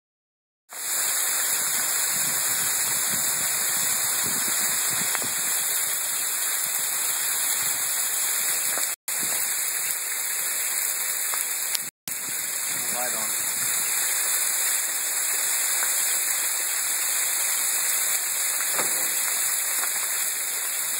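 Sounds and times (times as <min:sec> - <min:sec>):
sleet and rain falling hard: 0:00.7 - 0:20.9.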